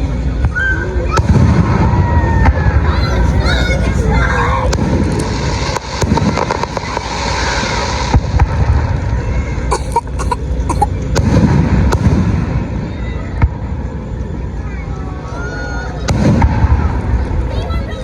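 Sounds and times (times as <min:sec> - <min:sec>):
low rumble: 0:00.0 - 0:15.4, 0:16.0 - 0:18.0
fireworks bangs and crackling: 0:00.3 - 0:14.7, 0:16.0 - 0:18.0.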